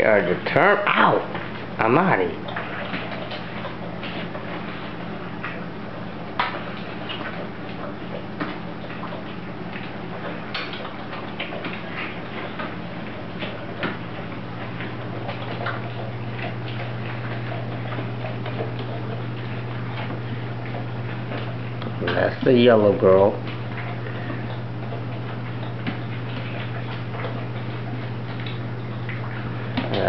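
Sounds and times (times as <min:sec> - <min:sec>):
puppies suckling smacking clicks: 0:00.0 - 0:30.0.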